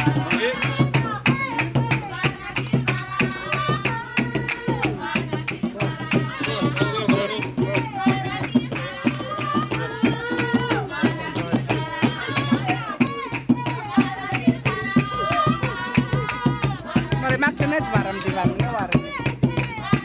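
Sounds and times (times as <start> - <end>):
hand drums: 0.0 - 20.0
voices singing: 0.0 - 20.0.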